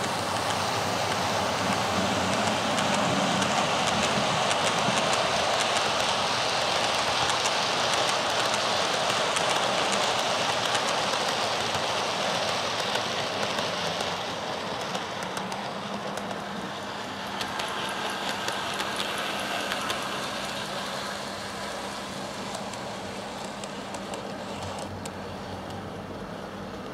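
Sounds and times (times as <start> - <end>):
model train wheels clicking: 0.0 - 26.9.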